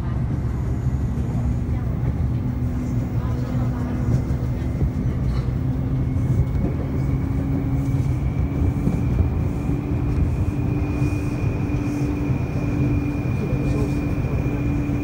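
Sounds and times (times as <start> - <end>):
train rail rumble: 0.0 - 15.0.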